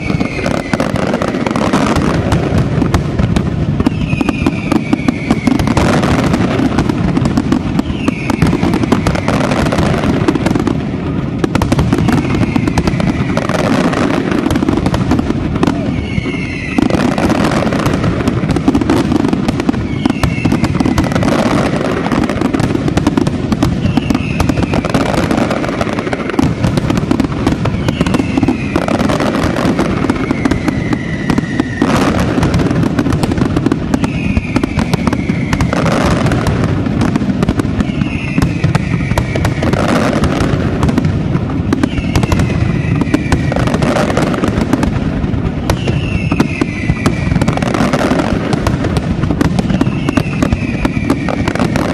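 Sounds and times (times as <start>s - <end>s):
falling firework whistle: 0.0s - 51.9s
firework shells bursting and crackling: 0.0s - 51.9s.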